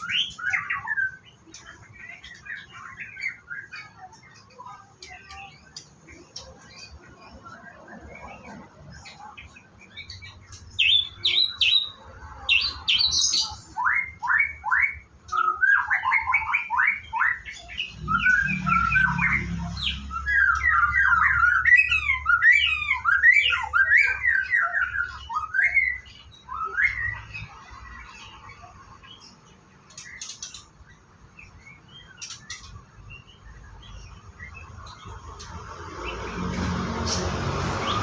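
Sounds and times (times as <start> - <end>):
bird singing: 0.0 - 38.0.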